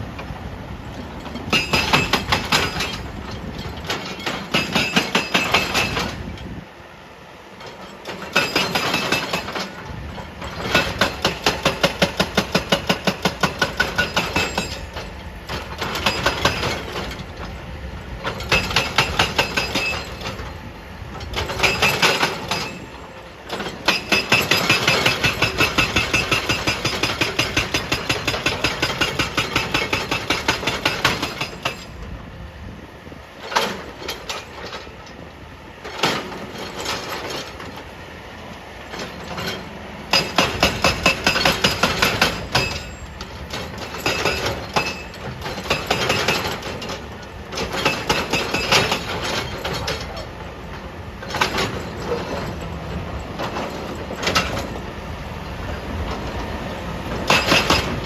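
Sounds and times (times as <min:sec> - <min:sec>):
hydraulic breaker pounding rock: 0:00.9 - 0:06.6, 0:07.6 - 0:32.2, 0:33.4 - 0:37.9, 0:38.8 - 0:55.0, 0:55.6 - 0:58.0.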